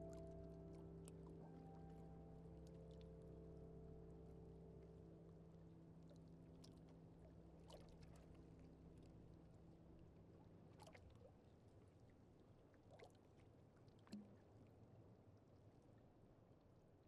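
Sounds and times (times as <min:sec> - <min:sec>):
soft water drips: 0:00.0 - 0:14.8
faint water ambience: 0:00.0 - 0:17.0.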